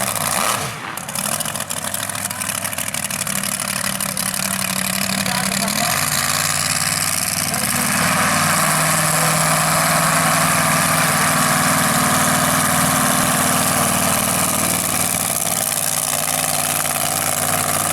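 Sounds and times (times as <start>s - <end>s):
truck engine idling: 0.0s - 17.9s.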